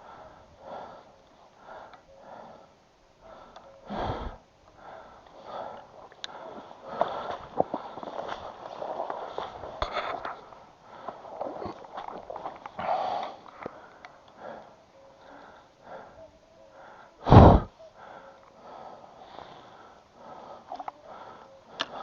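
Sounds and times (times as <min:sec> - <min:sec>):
person sniffing and breathing: 0:00.0 - 0:22.0.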